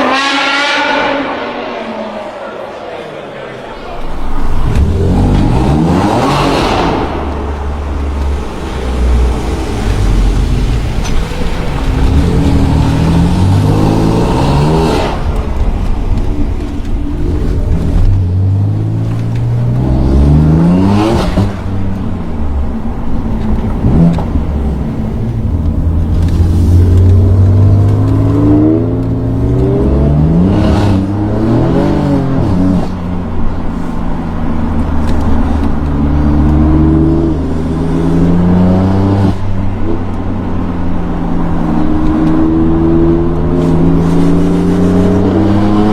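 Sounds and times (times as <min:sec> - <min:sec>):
car engines revving hard: 0:00.0 - 0:02.5, 0:04.0 - 0:45.9.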